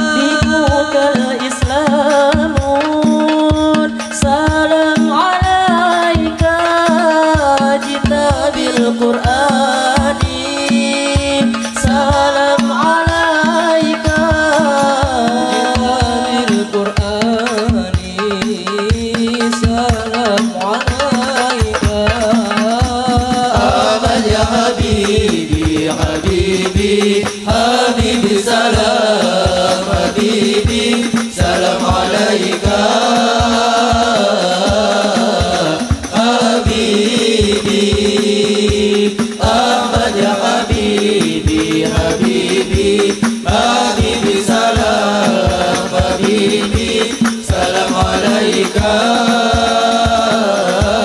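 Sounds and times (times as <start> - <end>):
frame drums beating fast: 0.0 - 51.0
men singing a chant together: 0.0 - 51.0.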